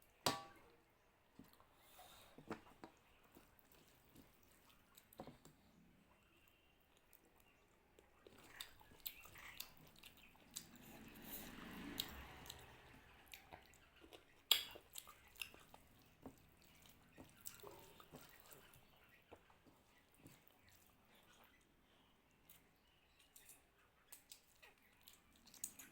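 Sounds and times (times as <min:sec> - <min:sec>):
chewing food: 0:01.2 - 0:25.9.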